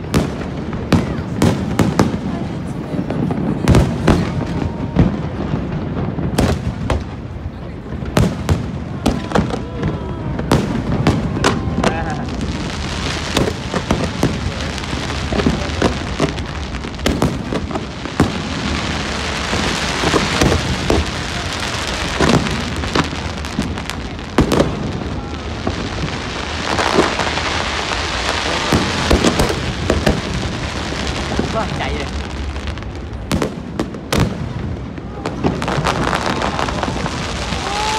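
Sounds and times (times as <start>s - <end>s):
fireworks crackling: 0.0s - 37.9s
sharp firework bangs: 0.0s - 37.9s.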